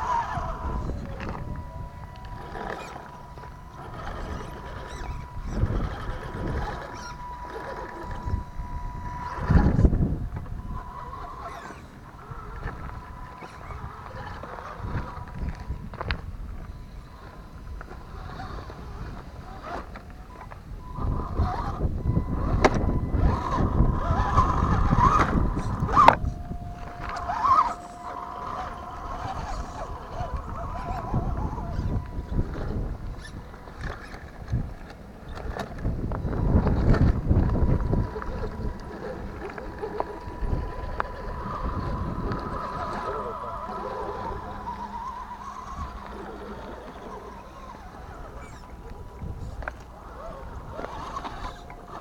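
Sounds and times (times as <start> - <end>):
rc truck electric motor whine: 0.0 - 52.0
tyres rumbling on rough ground: 0.0 - 52.0.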